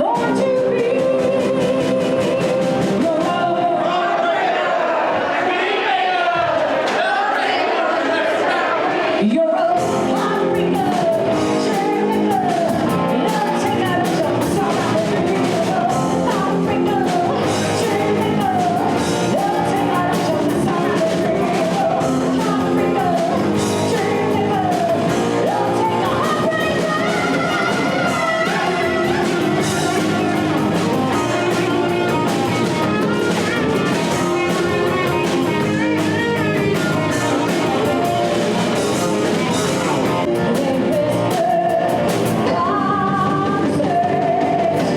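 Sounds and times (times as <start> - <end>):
electric guitar: 0.0 - 3.6, 9.8 - 44.9
person singing: 0.0 - 4.2, 9.2 - 44.9
drums: 0.0 - 44.9.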